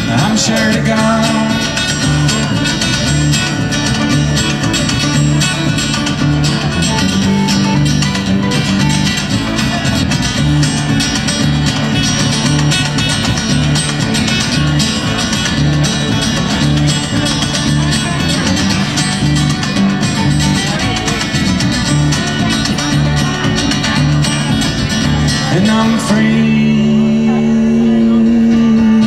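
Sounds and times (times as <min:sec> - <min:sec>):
djembe drumming: 0:00.0 - 0:26.4
fiddle: 0:00.0 - 0:27.6
acoustic guitar strumming: 0:00.0 - 0:29.0
banjo picking: 0:00.0 - 0:29.0
low bass notes: 0:00.0 - 0:29.0.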